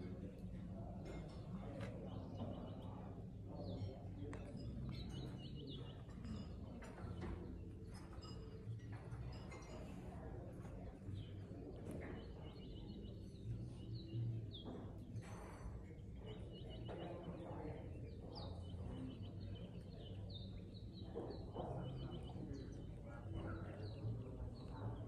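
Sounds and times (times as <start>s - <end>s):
small birds chirping: 0.1s - 25.0s.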